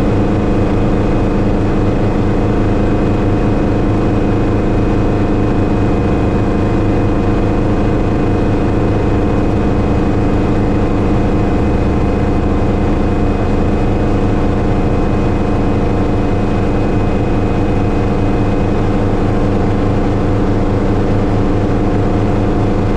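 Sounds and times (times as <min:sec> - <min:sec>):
helicopter engine and rotor drone: 0:00.0 - 0:22.9.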